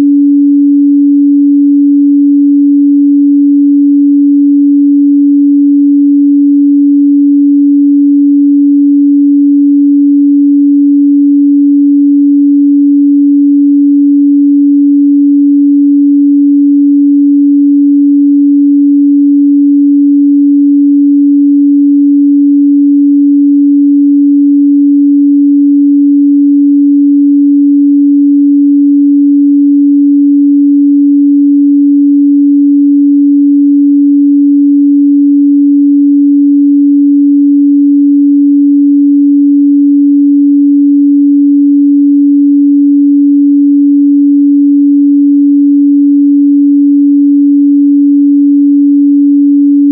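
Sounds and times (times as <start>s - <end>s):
steady sine-wave test tone: 0.0s - 49.9s.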